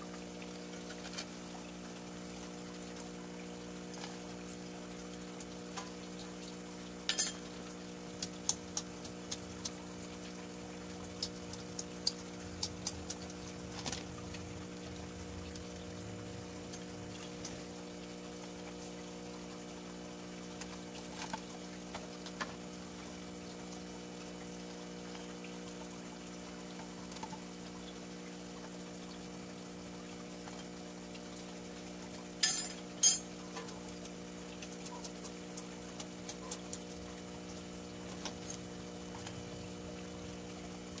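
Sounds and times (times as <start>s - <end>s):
low electric hum: 0.0s - 41.0s.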